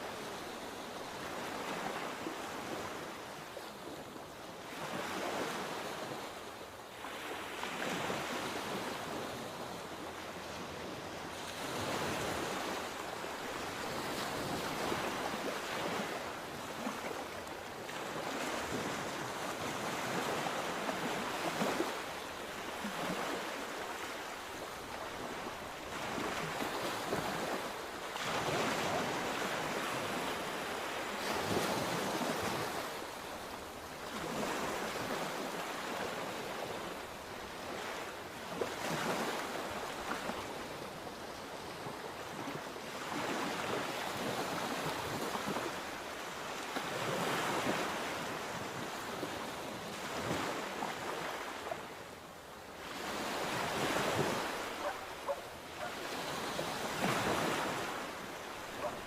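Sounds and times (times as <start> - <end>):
sea waves breaking on shore: 0.0 - 59.0
wind: 0.0 - 59.0.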